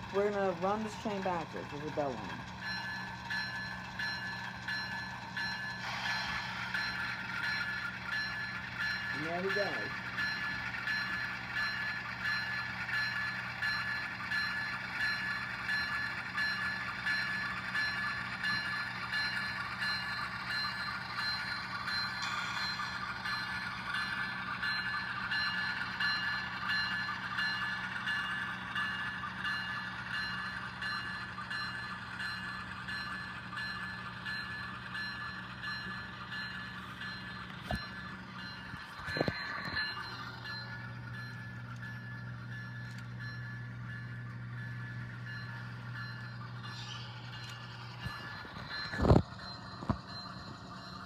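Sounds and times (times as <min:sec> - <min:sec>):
locomotive bell ringing: 0:00.0 - 0:51.0
low diesel engine rumble: 0:00.0 - 0:51.0.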